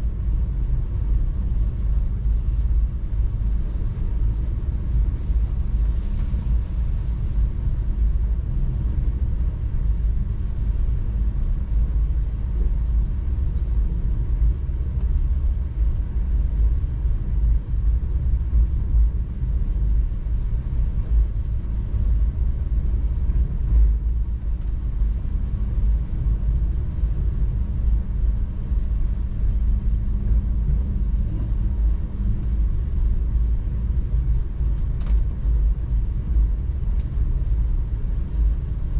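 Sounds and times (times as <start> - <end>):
faint steady hum: 0.0 - 38.9
train rumbling: 0.0 - 38.9.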